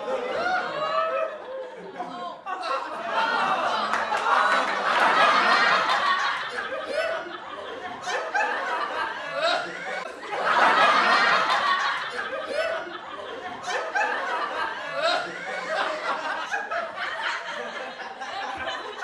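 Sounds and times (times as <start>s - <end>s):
group of people laughing: 0.0s - 19.0s.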